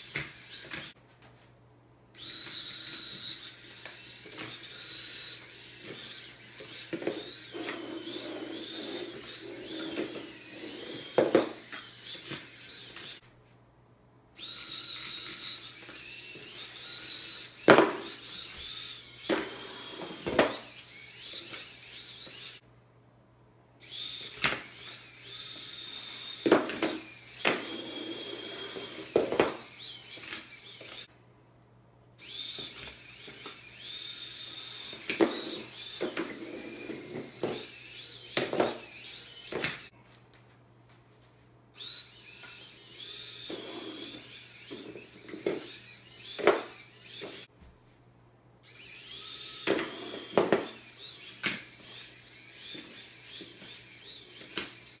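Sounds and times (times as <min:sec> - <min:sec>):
robot electric motors whining: 0:00.0 - 0:01.0, 0:02.2 - 0:13.2, 0:14.4 - 0:22.6, 0:23.8 - 0:31.1, 0:32.2 - 0:39.9, 0:41.8 - 0:47.5, 0:48.6 - 0:55.0.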